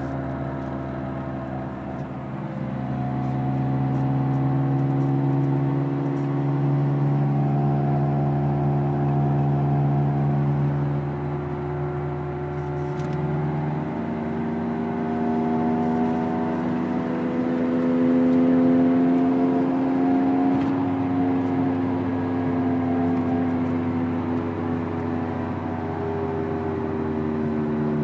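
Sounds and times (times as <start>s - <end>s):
car driving: 0.0s - 28.0s.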